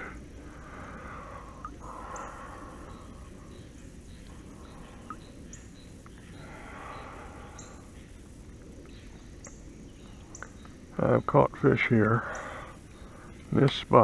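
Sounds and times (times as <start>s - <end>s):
soft bird chirps: 0.8s - 14.0s.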